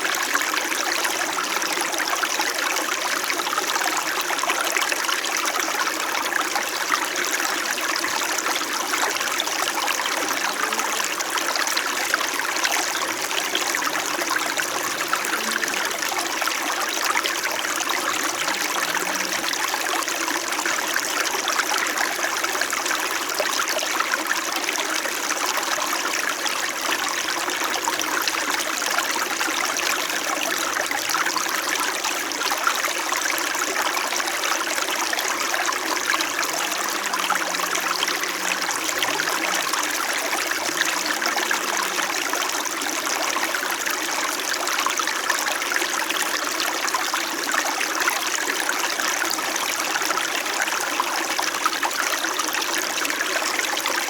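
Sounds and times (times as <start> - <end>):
brook water trickling: 0.0 - 54.0.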